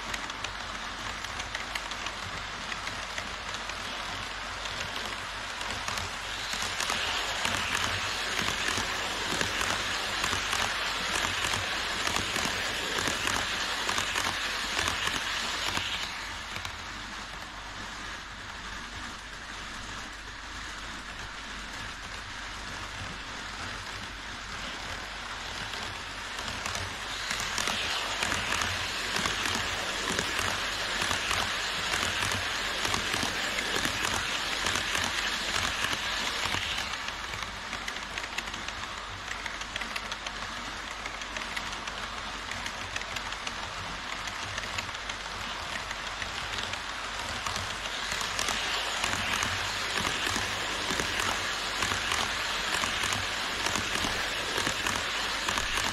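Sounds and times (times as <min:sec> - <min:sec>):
model train wheels rolling: 0:00.0 - 0:55.9.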